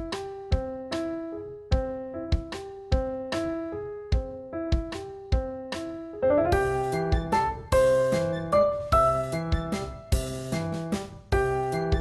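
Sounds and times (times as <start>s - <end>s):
piano tune: 0.0s - 12.0s.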